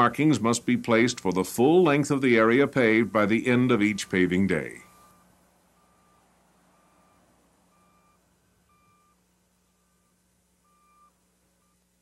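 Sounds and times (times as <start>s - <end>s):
vehicle reversing alarm beeping: 1.8s - 11.9s.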